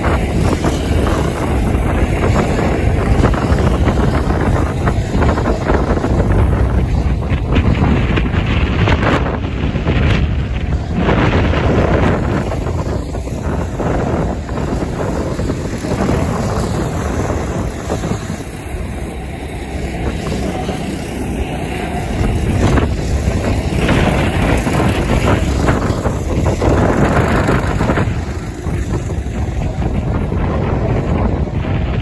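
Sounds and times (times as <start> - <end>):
small car engines racing: 0.0 - 32.0
wind buffeting microphone: 0.0 - 32.0.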